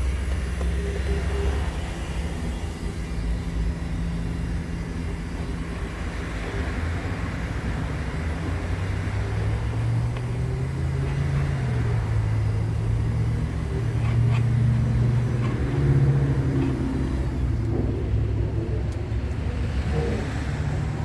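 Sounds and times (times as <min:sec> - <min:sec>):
low mechanical hum and rumble: 0:00.0 - 0:21.0.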